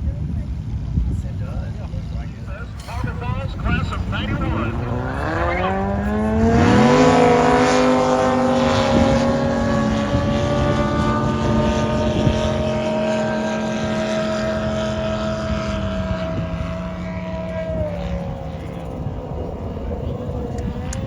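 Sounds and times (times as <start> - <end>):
racing boat engines at full throttle: 0.0 - 21.0.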